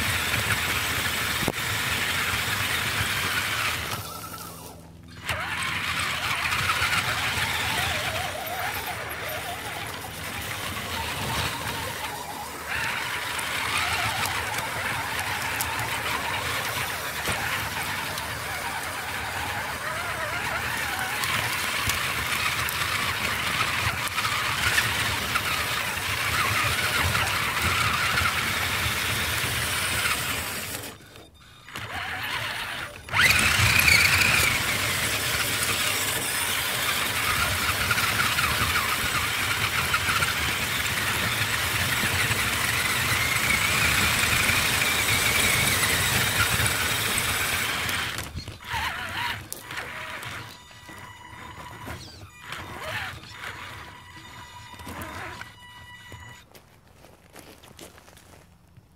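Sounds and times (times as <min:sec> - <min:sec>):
electric motor whining: 0:00.0 - 0:56.6
tyres rumbling on stones: 0:00.0 - 0:58.9.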